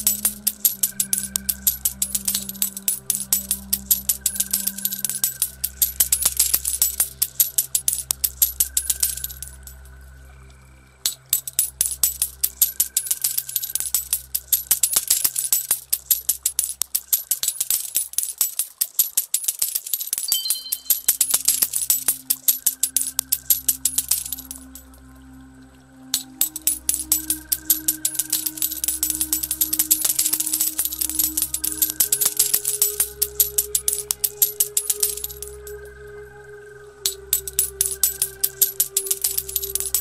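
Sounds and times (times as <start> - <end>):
coins clinking: 0.0 - 9.8, 11.1 - 24.8, 26.2 - 35.9, 37.1 - 40.0
slow ambient music: 0.0 - 18.6, 20.3 - 40.0.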